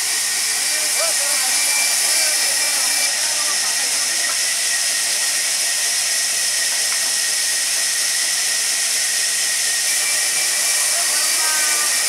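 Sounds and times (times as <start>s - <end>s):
band saw hiss and whine: 0.0s - 12.0s.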